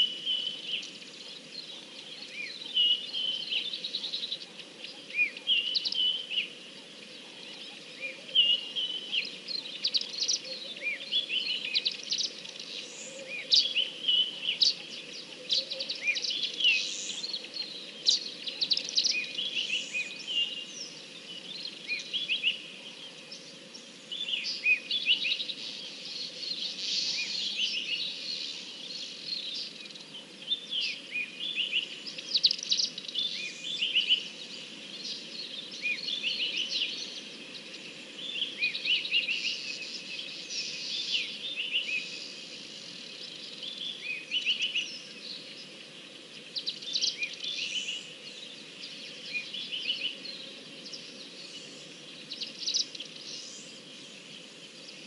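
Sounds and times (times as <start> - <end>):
songbirds chirping: 0.0 - 55.0
steady background hiss: 0.0 - 55.0.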